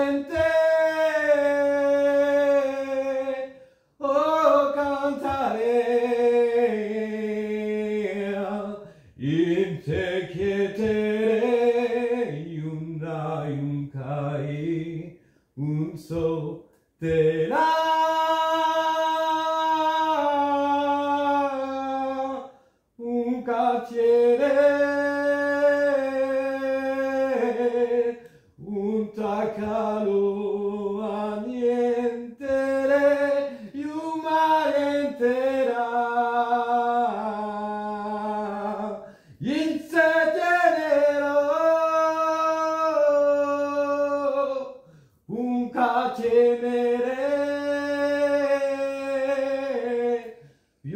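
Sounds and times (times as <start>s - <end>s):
man singing chant-like song: 0.0s - 50.9s.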